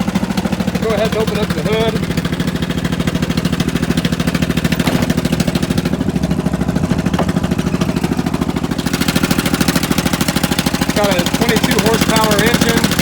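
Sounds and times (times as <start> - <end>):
garden tractor engine running: 0.0 - 13.0.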